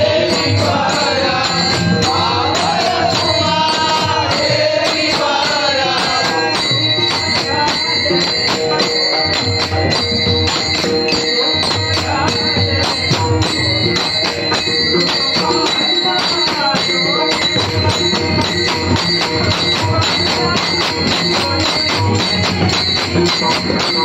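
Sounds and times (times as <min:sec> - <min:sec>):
hand cymbals clashing: 0:00.0 - 0:24.0
men singing together: 0:00.0 - 0:24.0.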